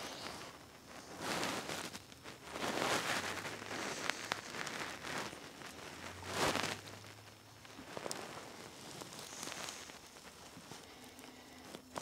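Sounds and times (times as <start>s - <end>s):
hands rustling and scraping: 0.0s - 12.0s.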